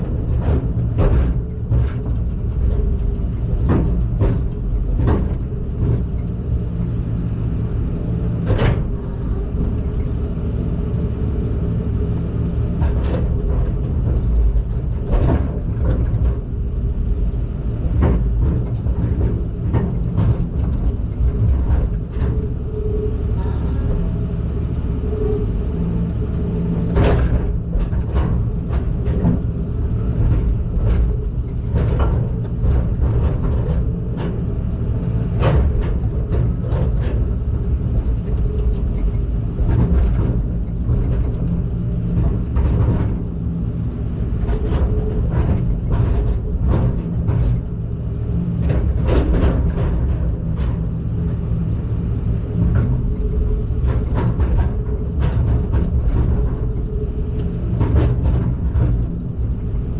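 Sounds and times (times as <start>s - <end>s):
heavy machine engine rumbling: 0.0s - 59.9s.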